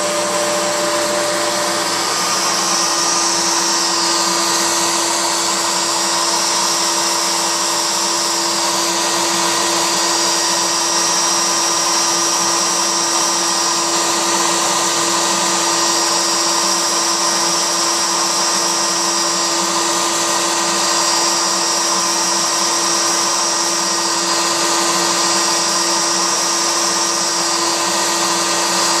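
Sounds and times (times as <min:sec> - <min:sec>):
dust collector running: 0:00.0 - 0:29.0
router bit cutting hiss: 0:00.0 - 0:29.0
router spindle high whine: 0:00.0 - 0:29.0.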